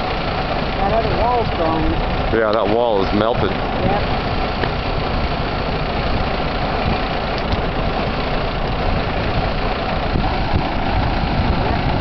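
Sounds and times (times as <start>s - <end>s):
fire roaring and crackling: 0.0s - 12.0s.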